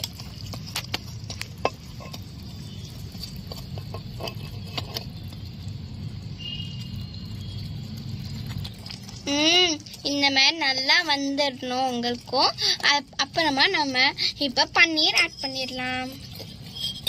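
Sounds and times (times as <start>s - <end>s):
spatula scraping metal pot: 0.0s - 5.6s, 6.6s - 17.0s.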